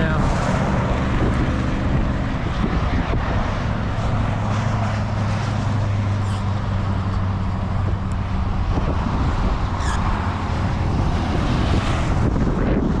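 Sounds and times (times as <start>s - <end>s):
constant rushing noise: 0.0s - 13.0s
vehicle engine humming: 0.0s - 13.0s.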